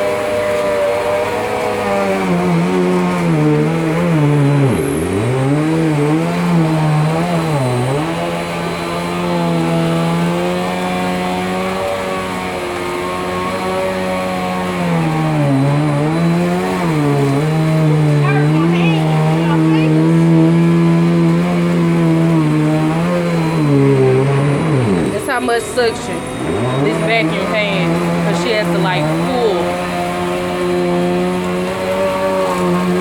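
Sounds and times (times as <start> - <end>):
vacuum cleaner motor humming: 0.0 - 33.0.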